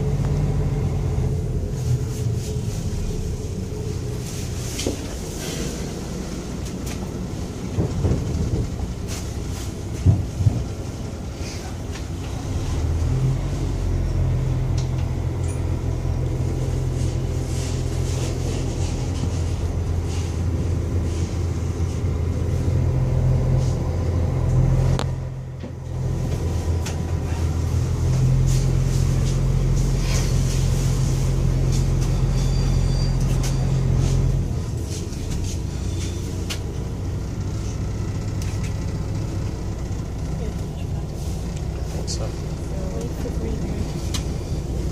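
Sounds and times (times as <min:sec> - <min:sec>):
rail car rumble from inside: 0:00.0 - 0:44.9.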